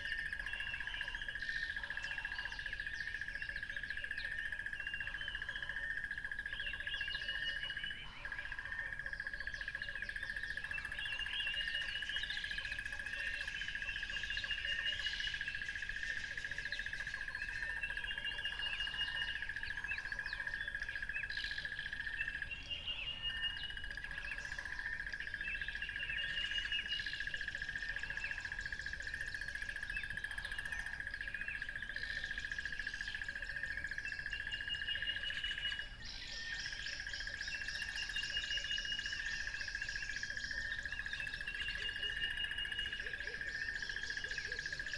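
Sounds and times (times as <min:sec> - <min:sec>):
birds chirping and calling: 0:00.0 - 0:44.9.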